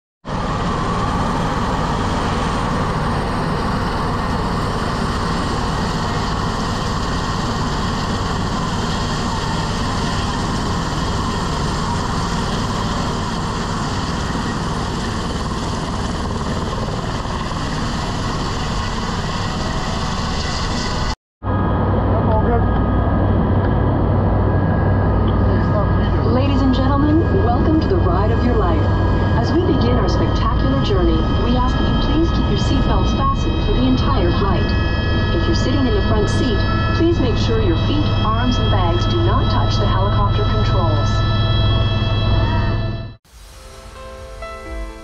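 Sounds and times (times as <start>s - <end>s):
helicopter engine and rotor: 0.2s - 43.2s.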